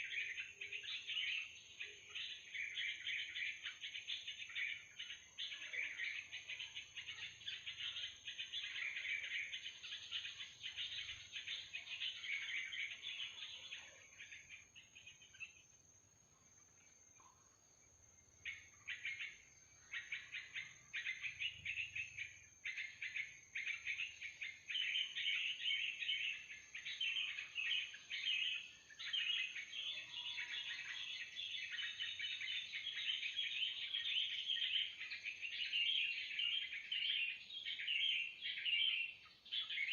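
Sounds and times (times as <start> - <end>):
bulbuls chattering and calling: 0.0 - 15.6, 18.5 - 39.9.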